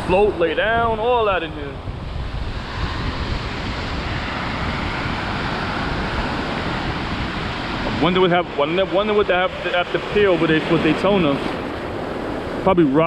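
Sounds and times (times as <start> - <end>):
ocean surf washing: 0.0 - 13.0
wind rumble on microphone: 0.0 - 13.0.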